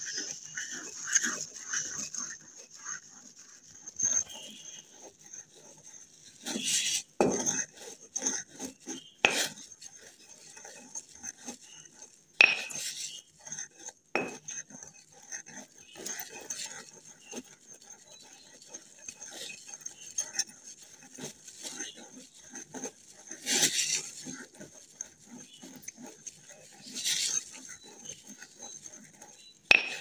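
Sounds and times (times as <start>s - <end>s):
pestle grinding in a mortar: 0.0s - 30.0s.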